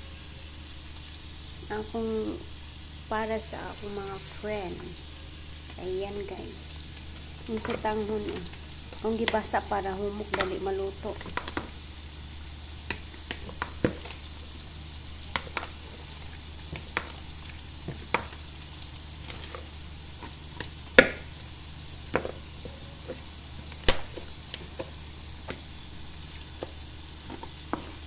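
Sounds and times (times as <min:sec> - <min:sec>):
frying sizzle: 0:00.0 - 0:28.0.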